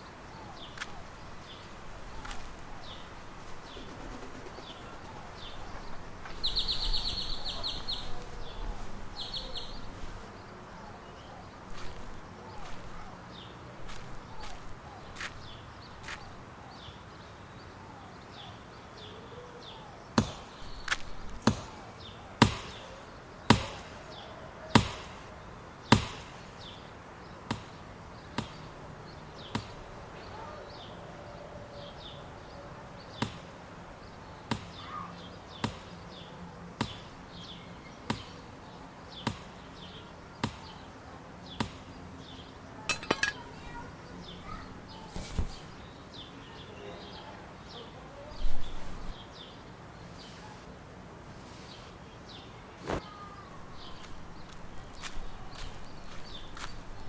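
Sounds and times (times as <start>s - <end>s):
birds chirping faintly: 0.0s - 24.3s, 33.8s - 57.0s.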